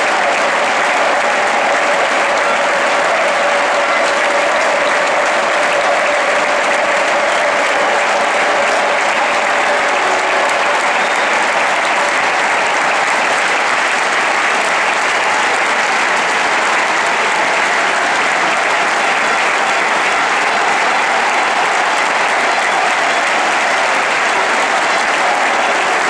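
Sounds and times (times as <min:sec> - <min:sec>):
stadium crowd applauding: 0:00.0 - 0:26.0.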